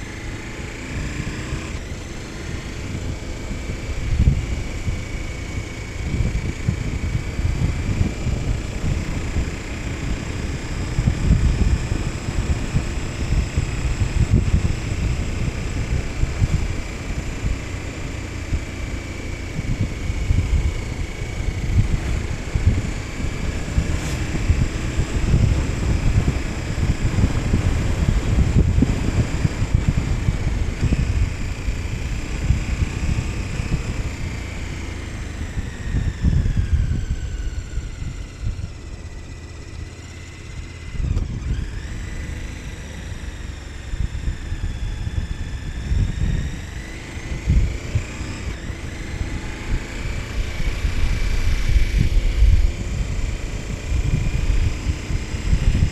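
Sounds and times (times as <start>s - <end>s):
motorcycle engine revving: 0.0s - 55.9s
wind buffeting microphone: 0.0s - 55.9s.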